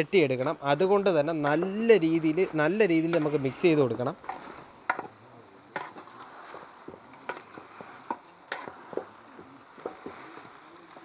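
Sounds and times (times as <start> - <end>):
spatula stirring thick sauce: 0.2 - 11.0.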